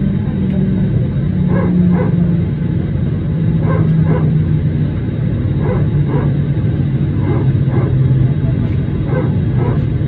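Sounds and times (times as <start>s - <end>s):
low cabin drone: 0.0s - 10.0s.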